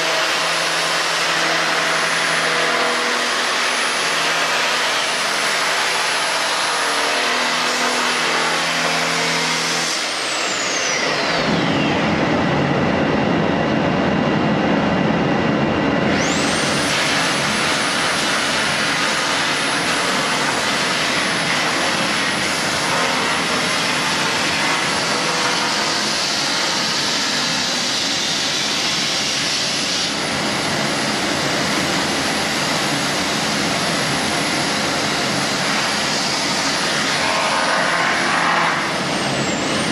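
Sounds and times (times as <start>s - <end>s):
belt sander grinding wood: 0.0s - 12.0s, 16.1s - 39.9s.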